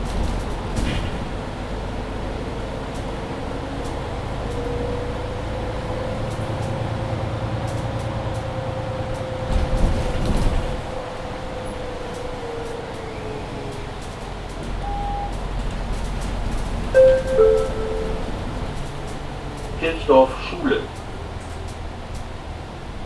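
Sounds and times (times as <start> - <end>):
city bus driving: 0.0 - 23.0.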